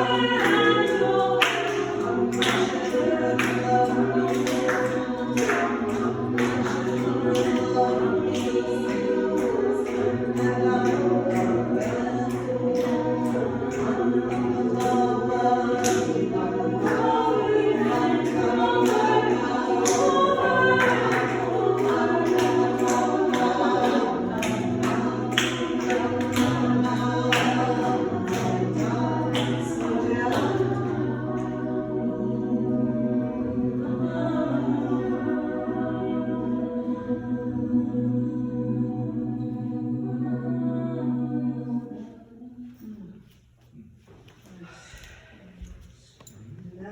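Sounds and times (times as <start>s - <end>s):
choir singing a cappella: 0.0s - 43.4s.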